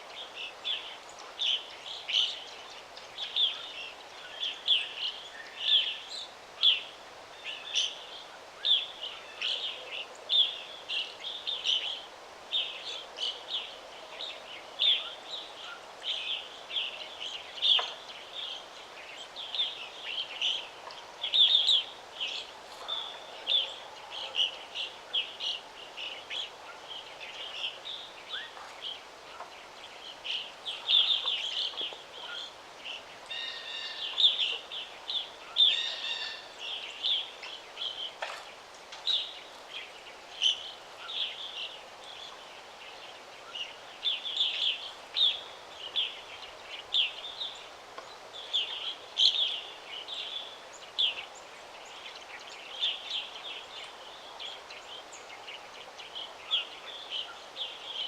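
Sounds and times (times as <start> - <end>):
faint steady background hiss: 0.0 - 58.0
songbirds chirping: 0.0 - 58.0.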